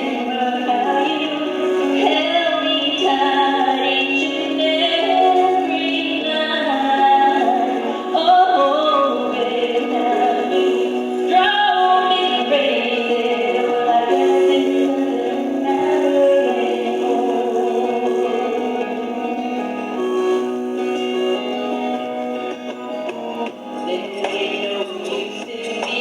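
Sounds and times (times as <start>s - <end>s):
woman singing country song: 0.0s - 21.9s, 22.9s - 26.0s.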